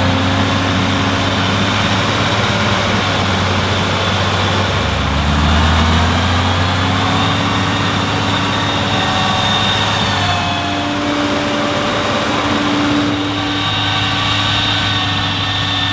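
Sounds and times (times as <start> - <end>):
heavy farm machine engine running: 0.0 - 15.9
faint rising whine: 1.6 - 15.9.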